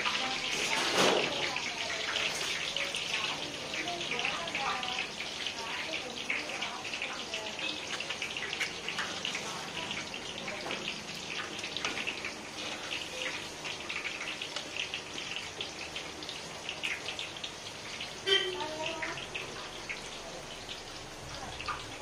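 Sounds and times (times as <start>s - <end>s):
batter sizzling in hot oil: 0.0s - 22.0s.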